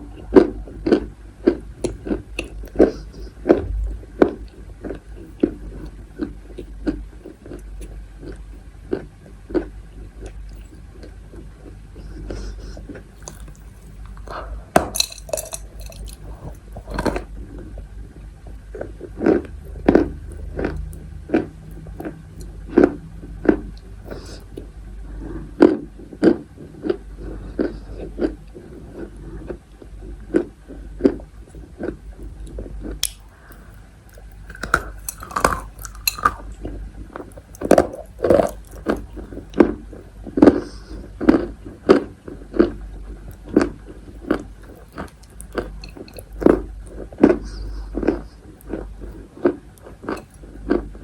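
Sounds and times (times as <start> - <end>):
person chewing crunchy chalk: 0.0 - 51.0.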